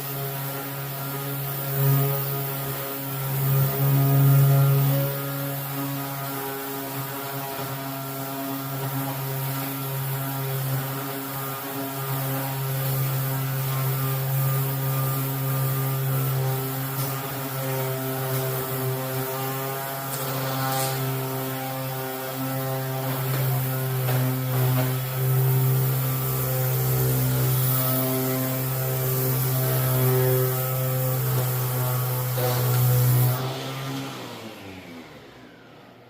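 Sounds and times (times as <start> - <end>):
power sander humming: 0.0 - 36.0.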